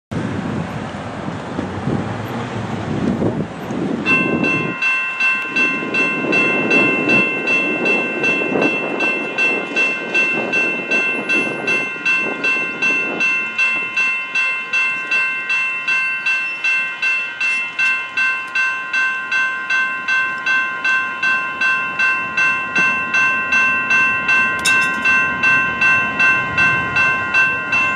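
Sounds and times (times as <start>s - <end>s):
railroad crossing bells ringing: 3.6s - 27.9s.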